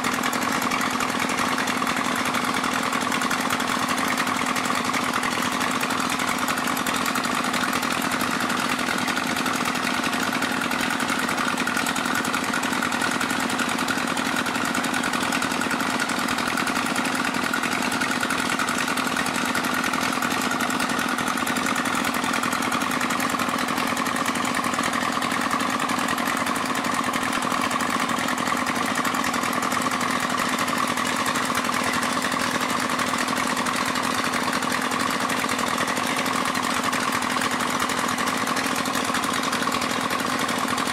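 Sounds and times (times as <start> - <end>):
pump engine droning: 0.0 - 40.9.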